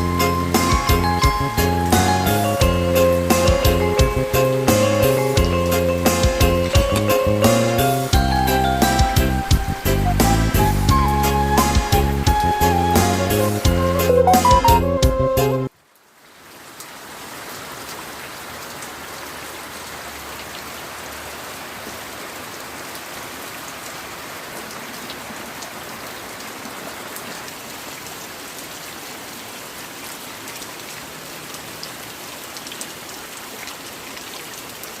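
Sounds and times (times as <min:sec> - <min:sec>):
steady rain hissing: 0:00.0 - 0:14.4, 0:15.3 - 0:35.0
raindrops dripping: 0:00.0 - 0:35.0.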